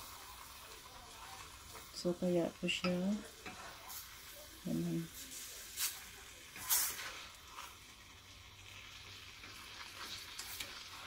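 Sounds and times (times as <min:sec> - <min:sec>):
faint sizzle: 0:00.0 - 0:11.0
metal spoon stirring in saucepan: 0:00.0 - 0:11.0
spoon scraping pan: 0:00.2 - 0:08.0, 0:08.8 - 0:11.0.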